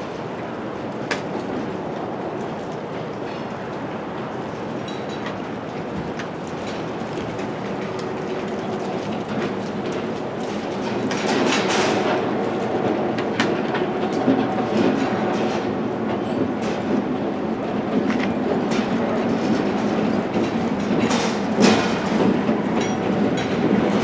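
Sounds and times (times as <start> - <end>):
freight train rumbling: 0.0 - 24.0
wheels clanking over rail joints: 0.0 - 24.0.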